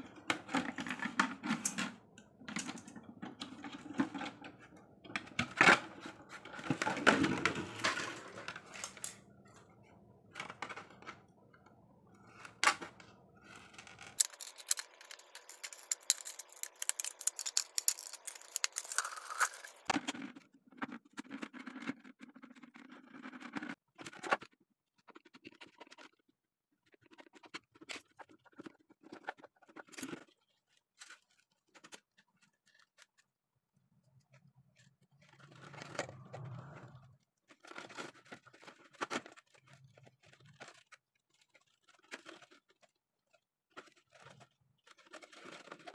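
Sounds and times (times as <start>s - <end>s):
thin plastic crackling and clicking: 0.1s - 33.4s, 34.1s - 45.9s.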